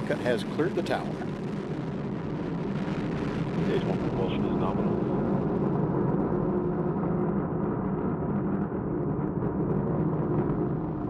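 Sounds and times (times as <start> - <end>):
rocket engines rumbling: 0.0 - 11.0.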